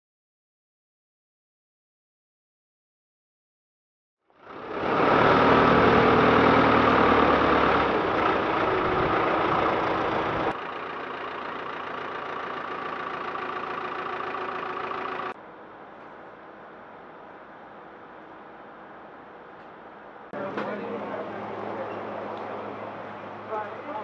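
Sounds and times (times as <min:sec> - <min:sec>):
forklift engine running: 0:04.3 - 0:24.0.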